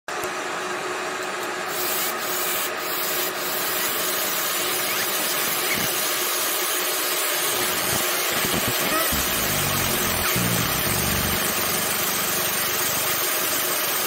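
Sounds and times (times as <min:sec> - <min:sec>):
laser engraving hiss: 0:01.7 - 0:14.0.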